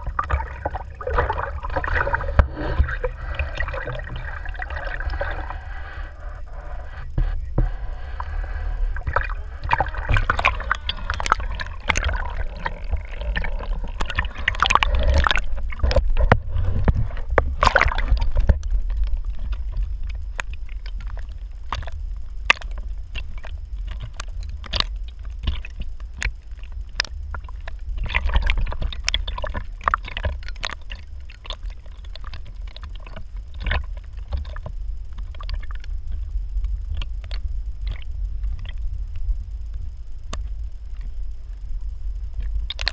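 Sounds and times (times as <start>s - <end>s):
water splashing against boat: 0.0s - 36.3s
steady low rumble: 0.0s - 42.9s.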